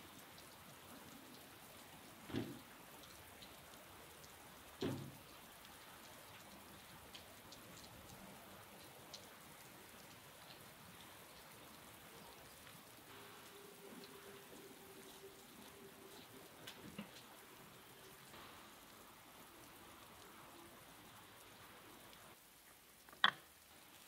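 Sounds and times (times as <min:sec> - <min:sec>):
faint steady hum: 0:00.0 - 0:24.0
rain on wet ground: 0:00.0 - 0:24.0.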